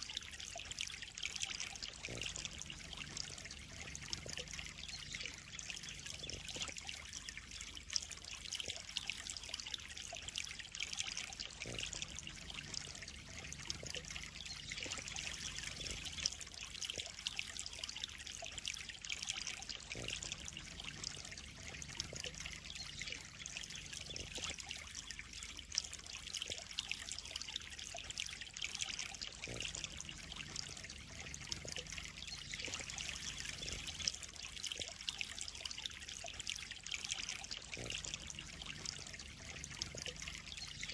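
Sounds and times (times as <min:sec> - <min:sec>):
water trickling into a pond: 0:00.0 - 0:40.9.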